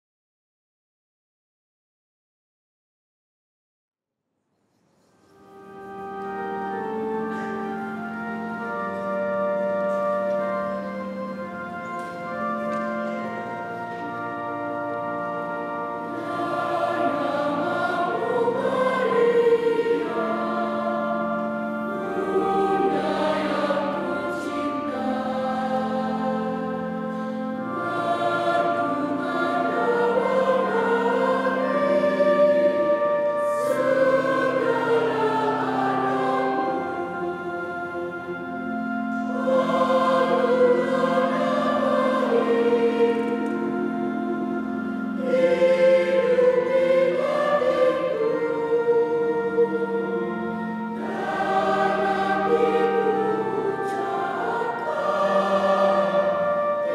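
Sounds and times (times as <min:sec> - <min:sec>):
keyboard accompaniment: 0:05.0 - 0:56.9
mixed choir singing a hymn: 0:05.8 - 0:56.9.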